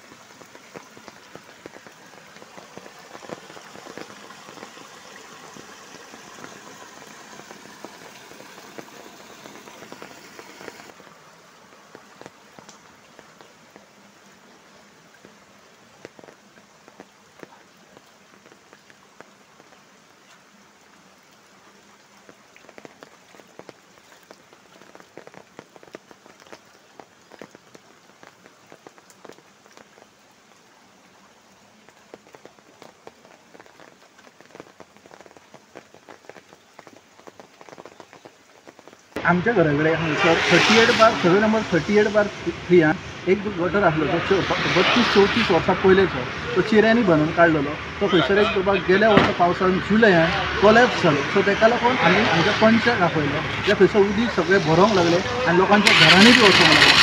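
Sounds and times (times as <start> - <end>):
heavy rain on floodwater: 0.0 - 57.0.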